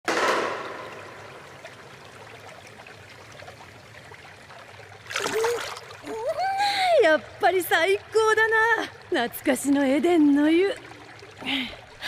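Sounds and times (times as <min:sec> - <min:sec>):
fountain water pouring: 0:00.8 - 0:12.0.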